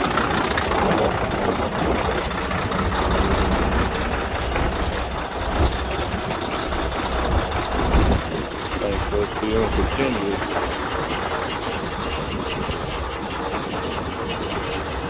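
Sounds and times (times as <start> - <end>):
diesel truck engine misfiring: 0.0 - 15.0.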